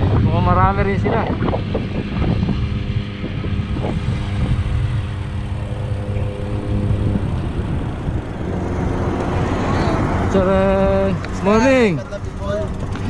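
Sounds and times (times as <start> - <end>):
bicycle road rumble: 0.0 - 13.0
steady mechanical hum: 0.0 - 13.0
wind noise: 0.0 - 13.0.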